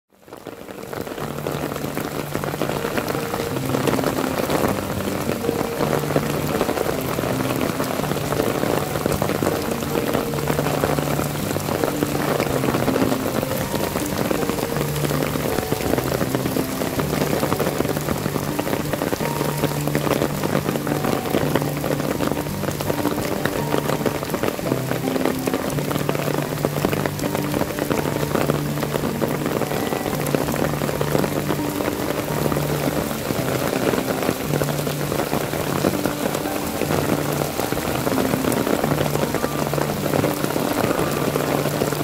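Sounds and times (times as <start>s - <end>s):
heavy rain on asphalt: 0.1s - 42.0s.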